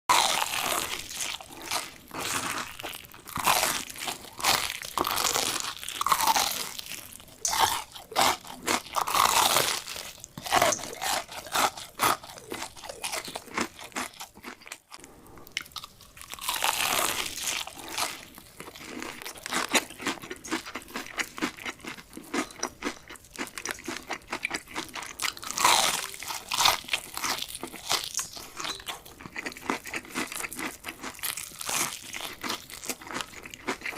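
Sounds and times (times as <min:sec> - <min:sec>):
crunchy chicken chewing: 0:00.1 - 0:33.9.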